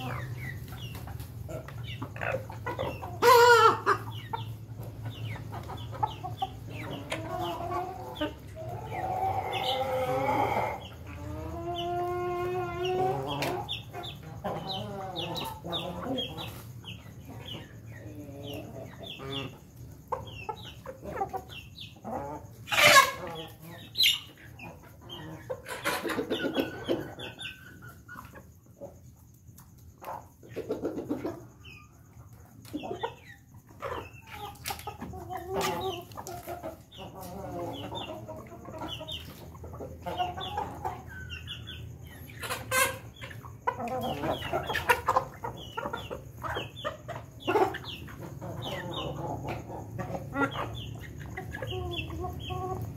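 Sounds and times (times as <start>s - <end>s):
roosters clucking and calling: 0.0s - 52.9s.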